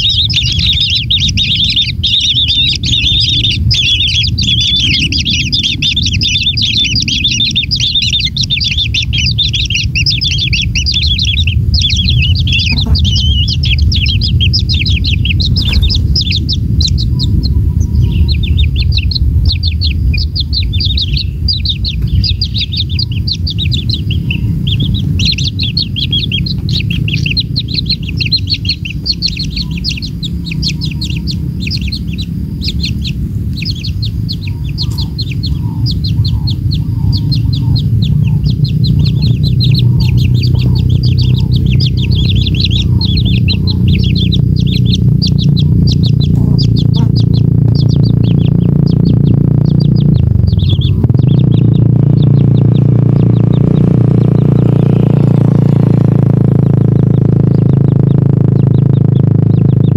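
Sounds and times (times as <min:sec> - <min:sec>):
low steady rumble: 0:00.0 - 0:59.9
nestlings chirping rapidly: 0:00.0 - 0:59.9.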